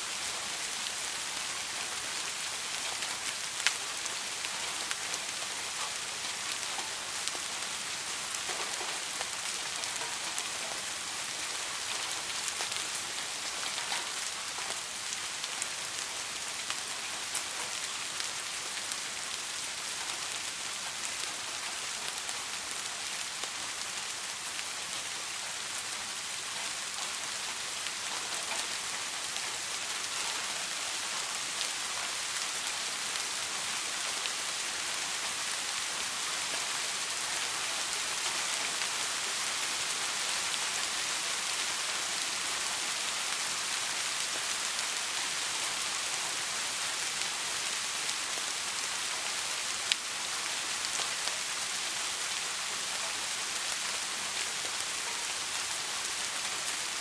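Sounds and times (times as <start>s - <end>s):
soft rain: 0.0s - 57.0s.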